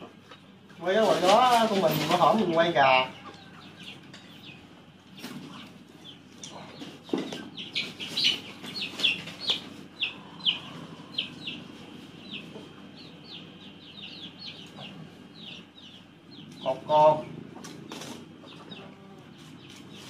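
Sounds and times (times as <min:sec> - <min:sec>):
bird chirping: 0:01.9 - 0:20.0.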